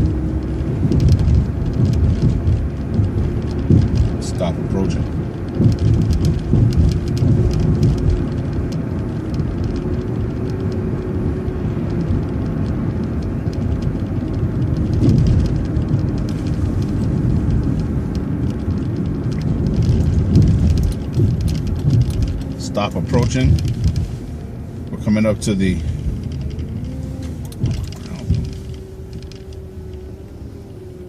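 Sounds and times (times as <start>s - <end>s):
bus engine and road rumble: 0.0s - 31.0s
faint constant whine: 0.0s - 31.0s
small rattles and ticks: 0.0s - 31.0s.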